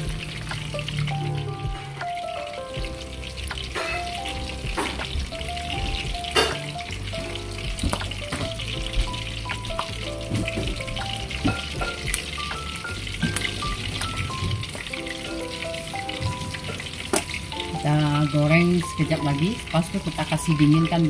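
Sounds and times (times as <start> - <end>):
meat sizzling in oil: 0.0 - 21.0
oil popping and crackling: 0.0 - 21.0.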